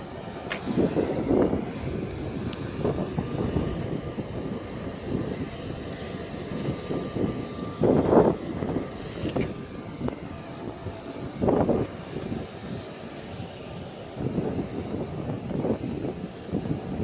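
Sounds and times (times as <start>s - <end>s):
faint steady engine whine: 0.0s - 17.0s
jet engines roaring: 0.0s - 17.0s.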